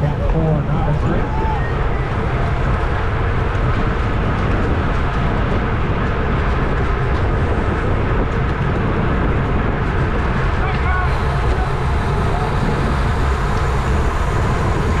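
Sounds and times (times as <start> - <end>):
bicycle road noise: 0.0 - 15.0
wind rush on microphone: 0.0 - 15.0.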